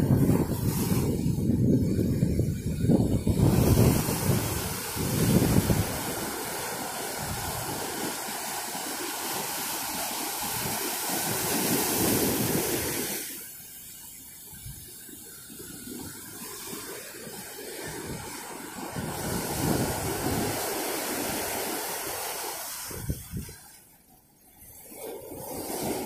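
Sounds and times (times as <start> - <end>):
ocean surf rushing: 0.0 - 14.1, 15.0 - 23.6.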